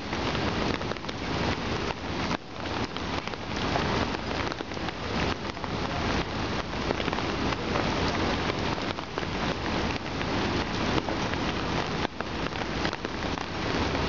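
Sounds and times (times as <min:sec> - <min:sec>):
rain falling on pool water: 0:00.0 - 0:14.0.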